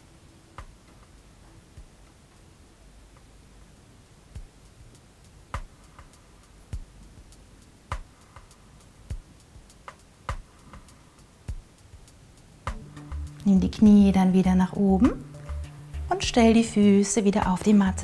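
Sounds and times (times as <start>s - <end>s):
quiet background music: 0.0s - 18.0s.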